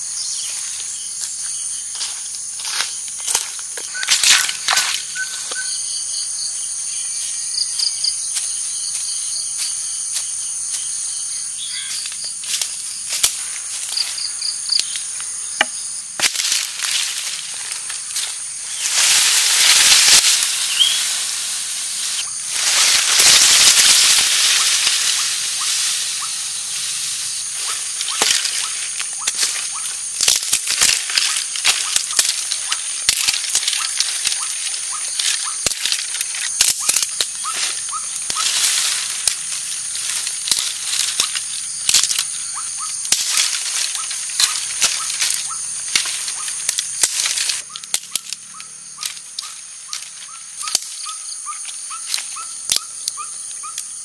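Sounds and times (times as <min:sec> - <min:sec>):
dry twigs snapping: 0:02.6 - 0:05.7, 0:11.9 - 0:53.9.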